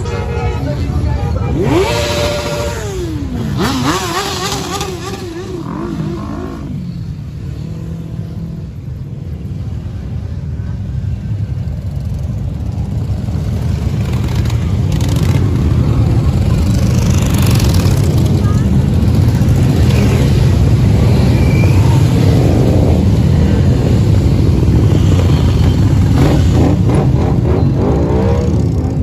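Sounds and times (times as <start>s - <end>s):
motorcycle engines rumbling: 0.0s - 29.0s.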